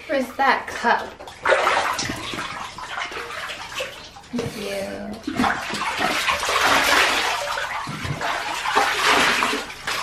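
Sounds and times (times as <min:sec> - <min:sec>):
water pouring and splashing: 0:00.4 - 0:10.0.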